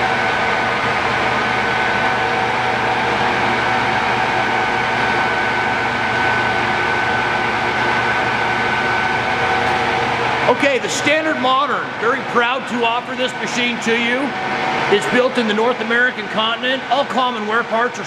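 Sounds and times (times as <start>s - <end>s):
lathe mechanical hum: 0.0s - 18.0s
steady whining tones: 0.0s - 18.0s.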